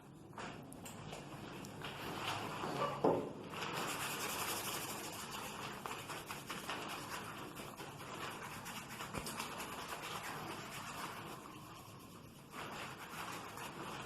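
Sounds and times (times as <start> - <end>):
hands rubbing skin and clothing: 0.0 - 14.0.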